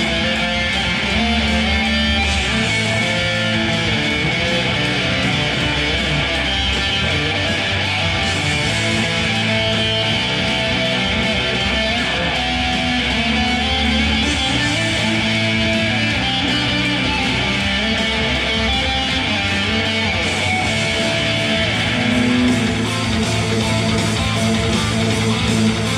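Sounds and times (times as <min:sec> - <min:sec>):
electric guitar through amplifier: 0:00.0 - 0:25.9.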